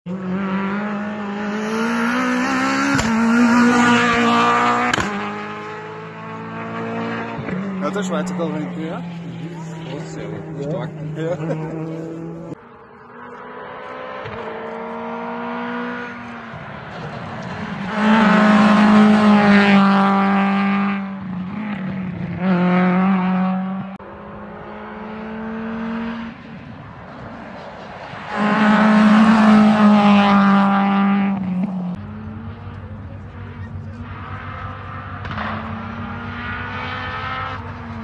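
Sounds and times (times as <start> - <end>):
rally car engine revving: 0.1 - 38.0.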